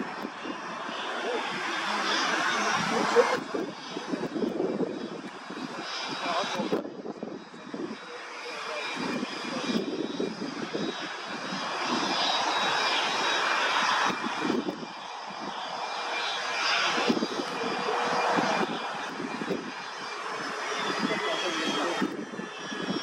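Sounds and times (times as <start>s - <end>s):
wind buffeting microphone: 0.0s - 8.1s, 8.9s - 16.0s, 16.6s - 23.0s
jet engine rushing noise: 0.0s - 23.0s
jet engines whining: 0.0s - 23.0s.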